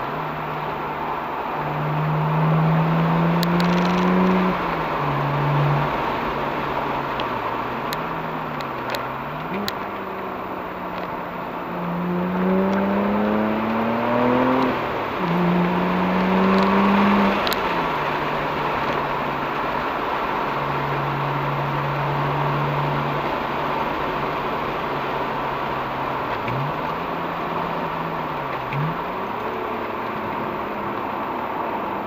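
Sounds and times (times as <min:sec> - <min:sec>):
car engine accelerating: 0:00.0 - 0:32.0
tyre and road noise: 0:00.0 - 0:32.0.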